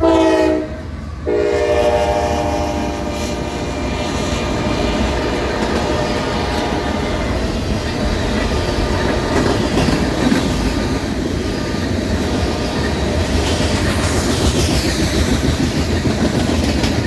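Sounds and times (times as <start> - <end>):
freight train cars rolling past: 0.0 - 17.0.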